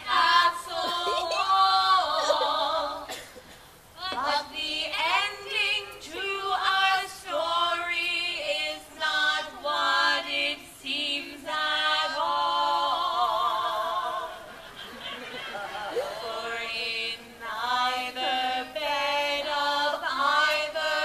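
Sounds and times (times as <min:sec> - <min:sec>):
group singing unaccompanied: 0:00.0 - 0:03.3, 0:04.0 - 0:21.0.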